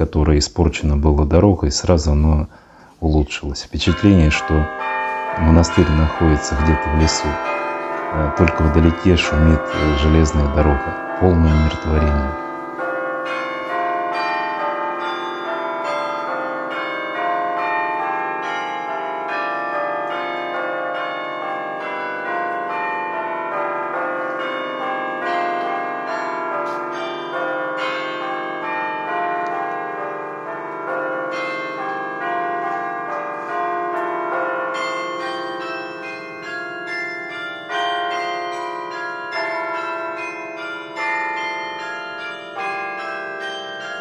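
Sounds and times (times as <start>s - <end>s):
church bells ringing a peal: 0.0s - 44.0s
deep bell tones: 0.0s - 44.0s.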